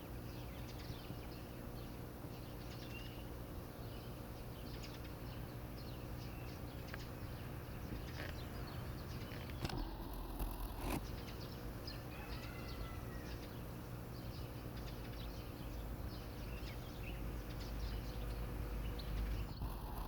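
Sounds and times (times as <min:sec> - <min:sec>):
faint low hum: 0:00.0 - 0:20.0
small birds chirping: 0:00.0 - 0:20.0.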